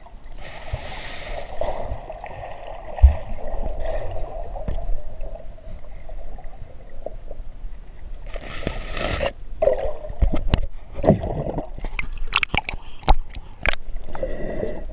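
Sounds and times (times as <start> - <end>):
gurgling water: 0.0 - 14.6.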